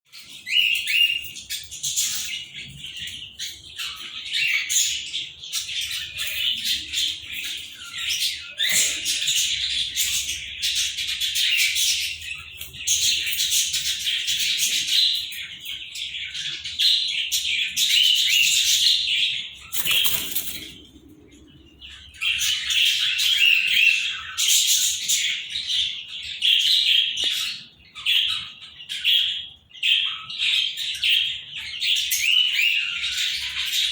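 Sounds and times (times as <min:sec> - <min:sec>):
parakeets chattering and calling: 0:00.2 - 0:33.9.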